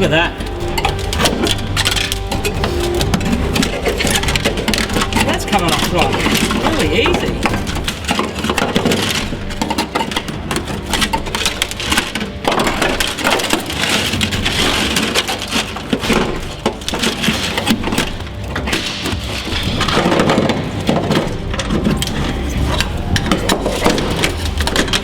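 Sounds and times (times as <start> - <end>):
brittle coating crackling and crunching: 0.0 - 25.0.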